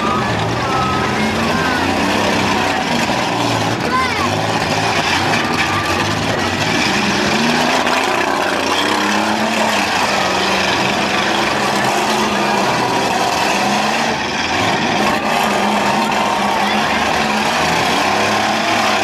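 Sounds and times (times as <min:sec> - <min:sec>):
car engines running loudly: 0:00.0 - 0:19.0.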